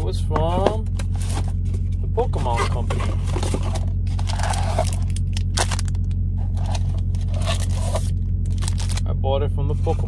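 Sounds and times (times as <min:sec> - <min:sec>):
steady low hum: 0:00.0 - 0:10.0
cardboard scraping and rustling: 0:00.4 - 0:09.0.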